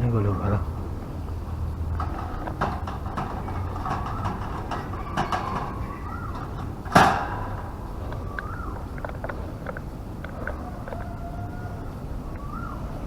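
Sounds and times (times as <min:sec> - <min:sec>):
faint clicks: 0:01.0 - 0:12.6.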